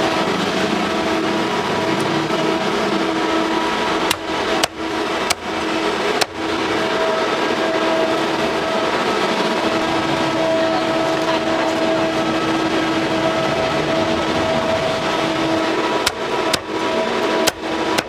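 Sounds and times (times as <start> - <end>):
rushing noise: 0.0 - 18.0
steady machine hum: 0.0 - 18.0.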